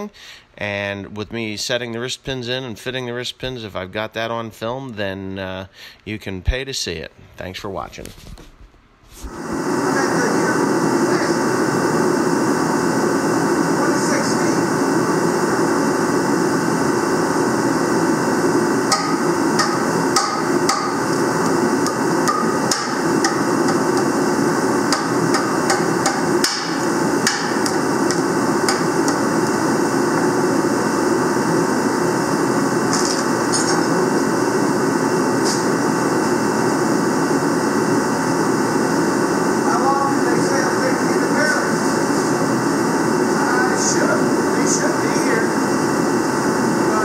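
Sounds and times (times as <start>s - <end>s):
steady background noise: 6.1s - 47.0s.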